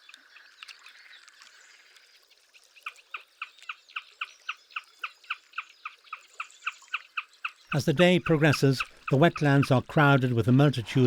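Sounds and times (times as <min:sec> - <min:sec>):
marsh birds chirping: 0:00.0 - 0:11.0.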